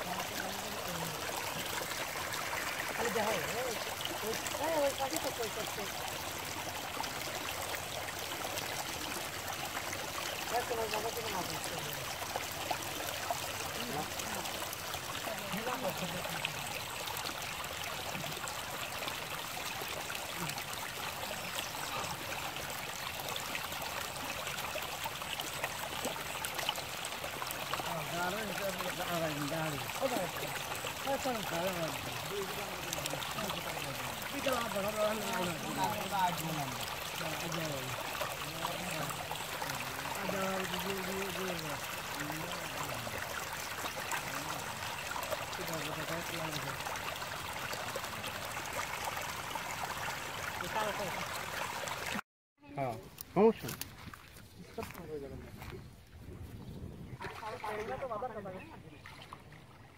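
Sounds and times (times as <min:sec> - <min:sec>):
water pouring into pool: 0:00.0 - 0:52.2, 0:57.2 - 0:59.9.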